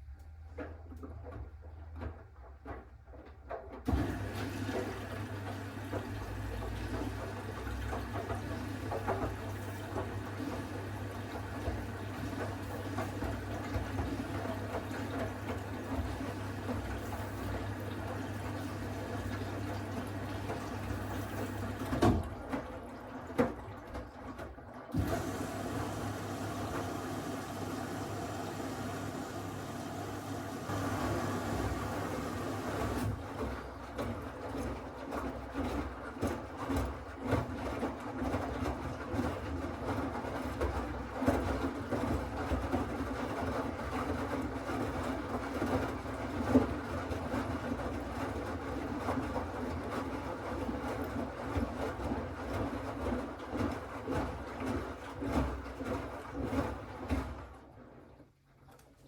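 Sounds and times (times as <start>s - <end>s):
water rushing in washing machine: 0.6s - 59.0s.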